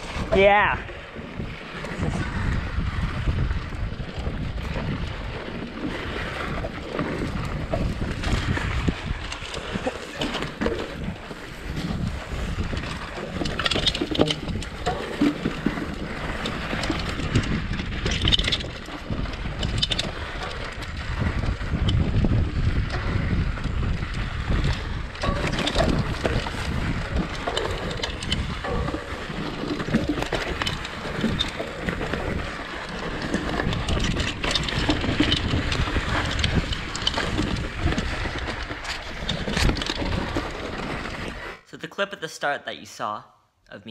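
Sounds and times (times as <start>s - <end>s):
bike rattling and knocking: 0.0s - 41.5s
wind buffeting microphone: 0.0s - 41.6s
tyres on dirt: 4.6s - 41.6s.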